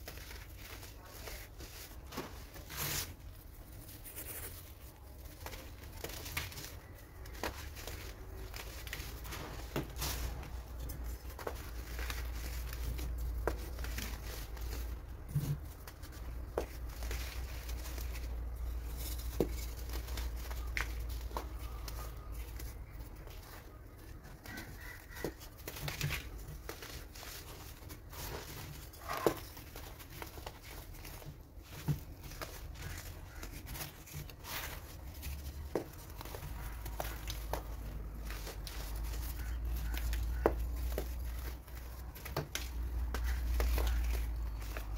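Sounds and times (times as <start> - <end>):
dry powder crunching: 0.0 - 44.9.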